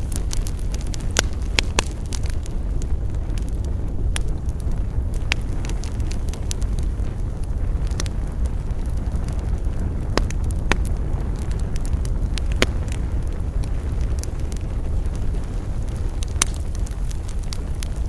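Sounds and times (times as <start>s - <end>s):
burning wood crackling and popping: 0.0s - 18.0s
campfire rumbling: 0.0s - 18.0s.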